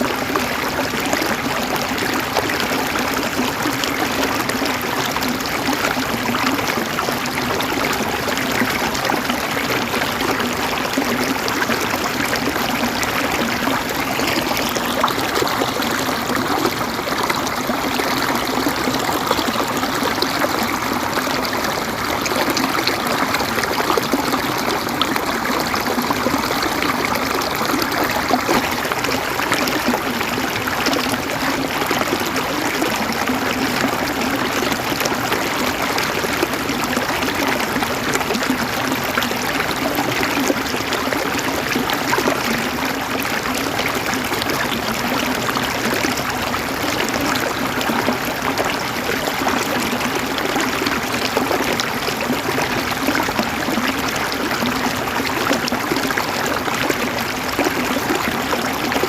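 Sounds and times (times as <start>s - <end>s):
river water gurgling over stones: 0.0s - 59.0s.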